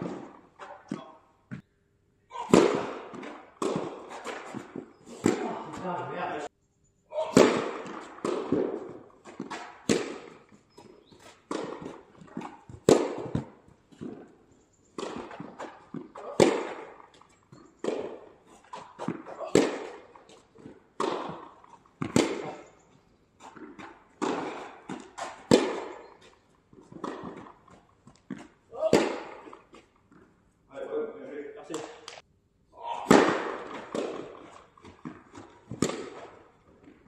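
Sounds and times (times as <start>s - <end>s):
racquet hitting tennis ball: 0.0s - 1.6s, 2.3s - 6.4s, 7.2s - 29.9s, 31.7s - 32.2s, 33.0s - 37.0s.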